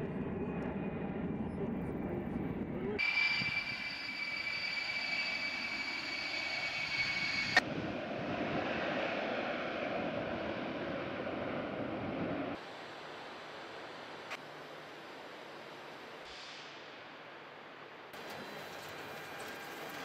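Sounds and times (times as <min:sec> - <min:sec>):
jet engines whining: 0:00.0 - 0:16.2.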